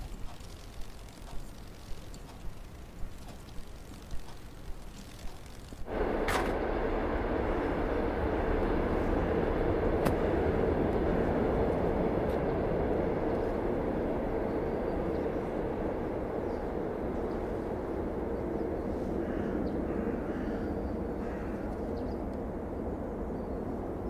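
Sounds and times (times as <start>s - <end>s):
rumbling noise with low hum: 0.0s - 24.0s.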